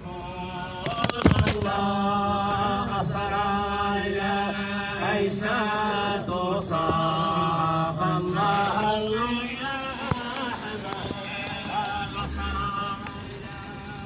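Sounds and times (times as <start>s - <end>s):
voices singing devotional chant: 0.0s - 14.0s.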